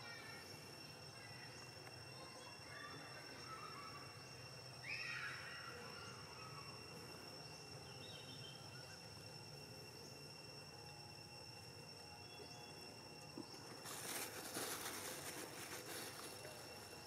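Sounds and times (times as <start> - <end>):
faint forest ambience: 0.0 - 17.0
high-pitched insect drone: 0.0 - 17.0.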